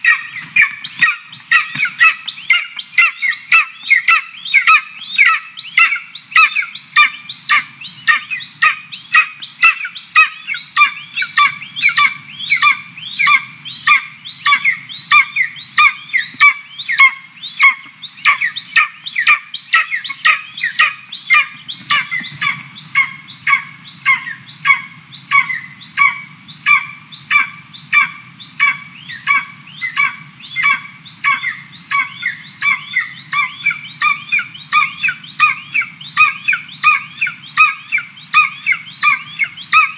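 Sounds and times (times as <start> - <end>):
young eagle high-pitched begging calls: 0.0 - 39.9.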